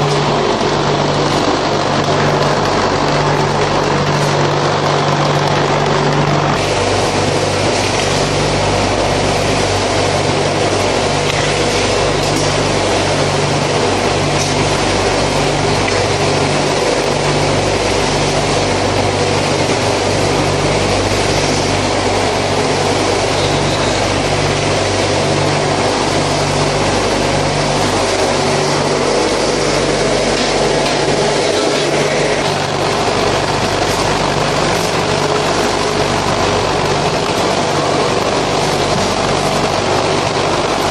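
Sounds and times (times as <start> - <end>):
concrete mixer churning: 0.0 - 40.9.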